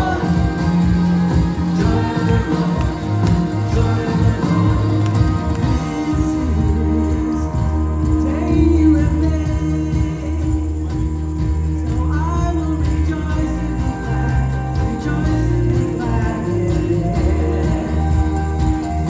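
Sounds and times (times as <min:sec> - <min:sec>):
bass: 0:00.0 - 0:19.0
keyboard chords: 0:00.0 - 0:19.0
singing: 0:00.0 - 0:19.0
tambourine jingling: 0:00.0 - 0:19.0.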